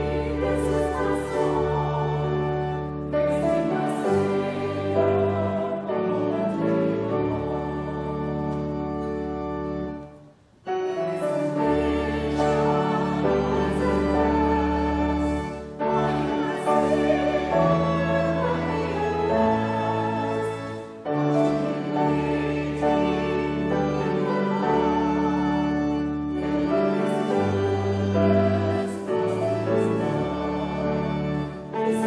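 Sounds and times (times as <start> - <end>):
sustained keyboard chords: 0.0 - 32.0.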